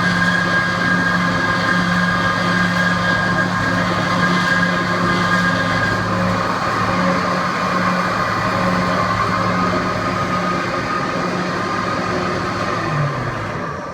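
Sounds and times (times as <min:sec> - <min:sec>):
bandsaw motor hum: 0:00.0 - 0:13.8.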